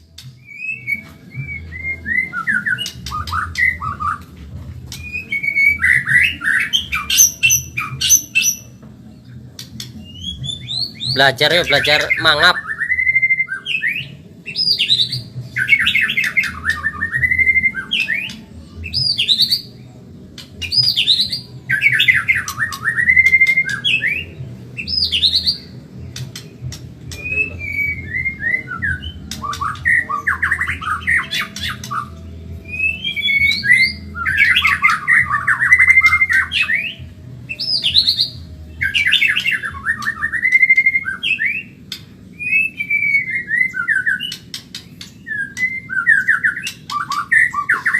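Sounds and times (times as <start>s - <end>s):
bird singing rapid phrases: 0.0s - 47.9s.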